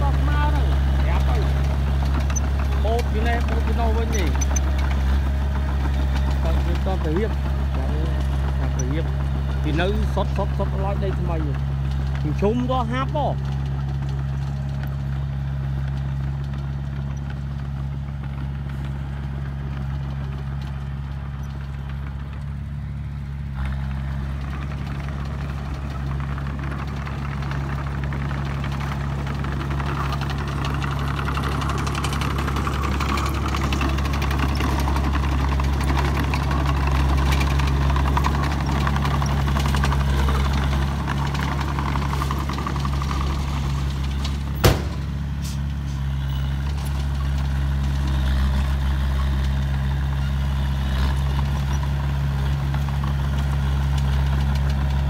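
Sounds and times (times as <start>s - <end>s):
bulldozer diesel engine running: 0.0s - 55.0s
track and blade clatter: 0.0s - 55.0s.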